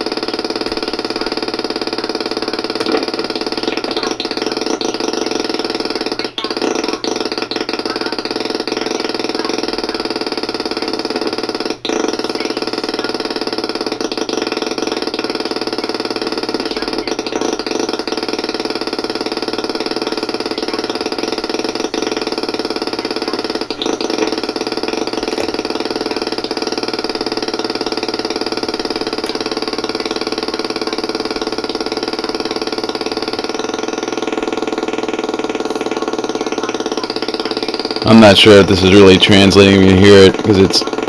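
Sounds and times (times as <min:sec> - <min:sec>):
feedback drone: 0:00.0 - 0:41.0.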